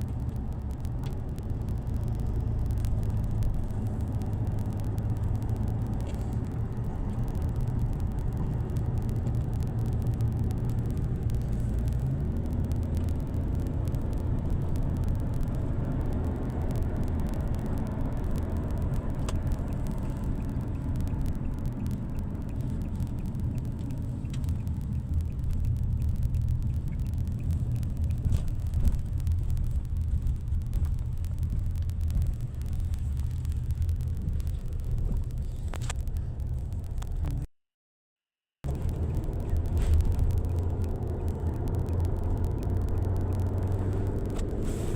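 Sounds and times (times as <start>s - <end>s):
road vehicle engine rumble: 0.0s - 37.5s, 38.6s - 44.9s.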